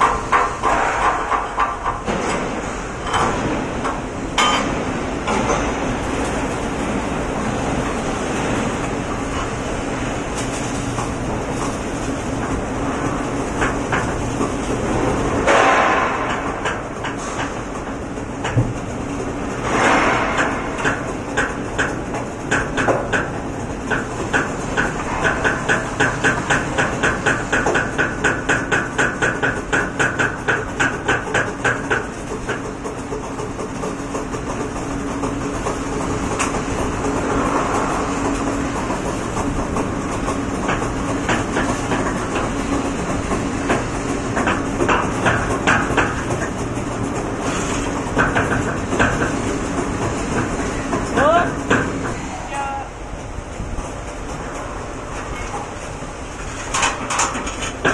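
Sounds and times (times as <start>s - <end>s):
machinery hum: 0.0s - 57.9s.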